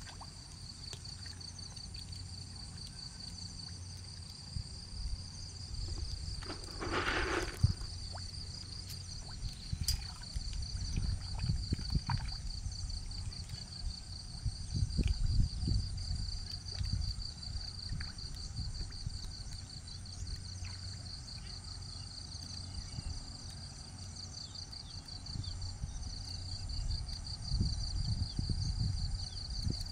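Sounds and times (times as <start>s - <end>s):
insect chorus chirring: 0.0s - 29.9s
low rumble on microphone: 4.4s - 23.5s, 24.8s - 29.9s.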